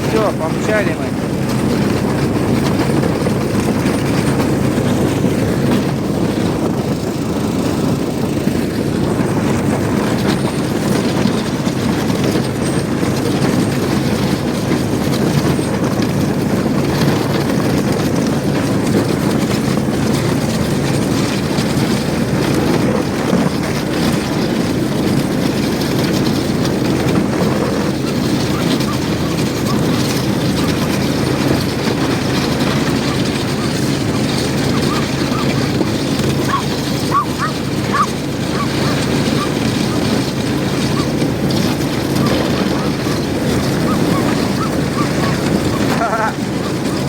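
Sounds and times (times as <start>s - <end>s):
snowmobile engine running: 0.0s - 47.0s.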